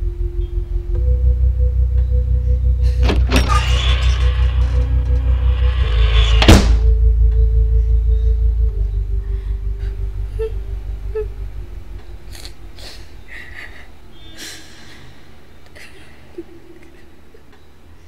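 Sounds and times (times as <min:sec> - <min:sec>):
low music drone: 0:00.0 - 0:15.8.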